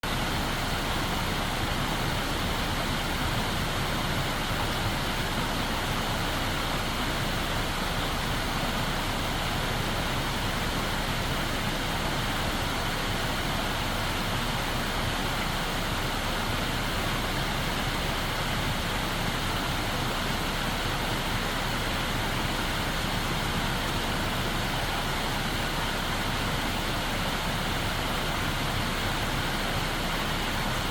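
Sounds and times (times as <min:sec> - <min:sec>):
rushing water: 0:00.0 - 0:30.9.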